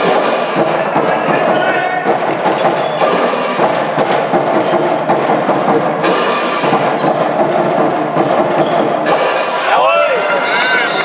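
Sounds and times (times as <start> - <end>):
sharp knocks and thuds: 0.0 - 9.7
sports hall din: 0.0 - 11.0.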